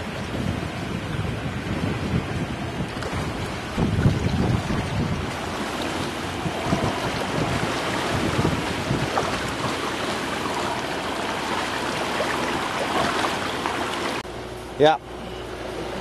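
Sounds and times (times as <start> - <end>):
wind buffeting microphone: 0.0 - 14.3
sea water rushing past hull: 0.0 - 16.0.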